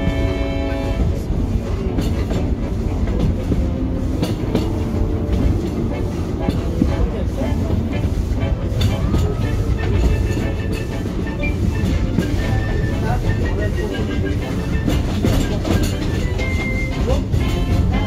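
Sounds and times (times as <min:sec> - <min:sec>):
train rumbling on track: 0:00.0 - 0:18.0
wheels clicking and knocking: 0:00.0 - 0:18.0.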